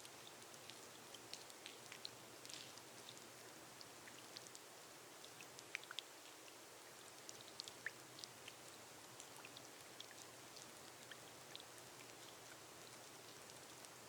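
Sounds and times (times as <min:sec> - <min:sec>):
light drip ticks: 0:00.0 - 0:14.0
rain on a glass roof: 0:00.0 - 0:14.0.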